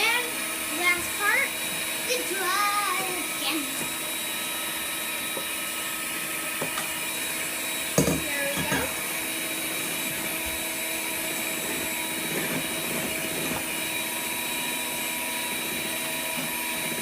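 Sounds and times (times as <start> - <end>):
electric mixer running: 0.0 - 17.0.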